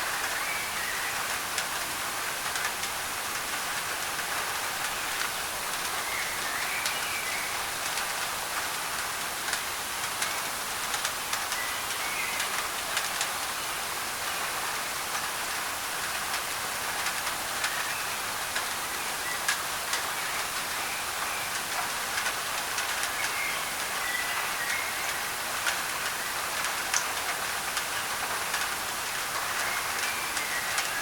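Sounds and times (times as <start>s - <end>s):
rain on a tin roof: 0.0s - 31.0s.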